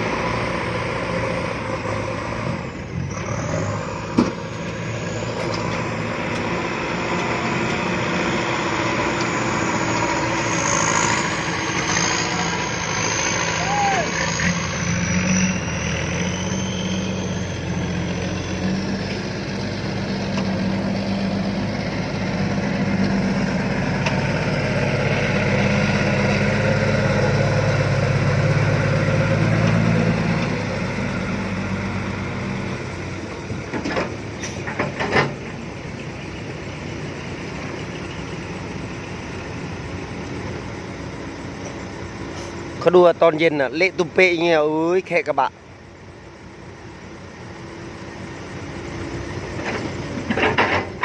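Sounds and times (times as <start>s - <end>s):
truck diesel engine under load: 0.0s - 51.0s.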